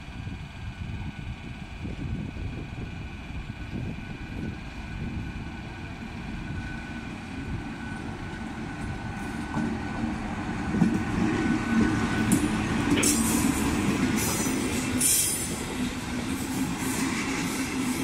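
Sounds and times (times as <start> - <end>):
faint locomotive whine: 0.0 - 18.0
train wheels rumbling on rails: 0.0 - 18.0.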